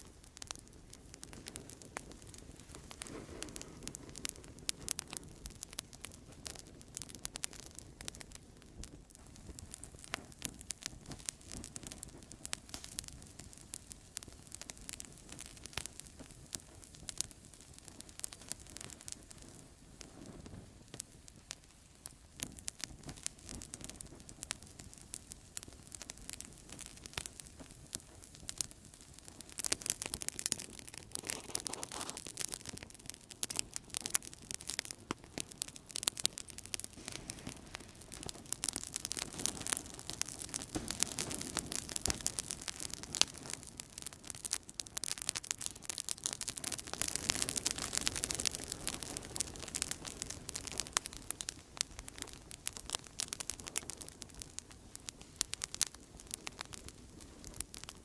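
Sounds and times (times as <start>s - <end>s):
low rush of flame: 0.0s - 58.0s
wood crackling and popping: 0.0s - 58.0s.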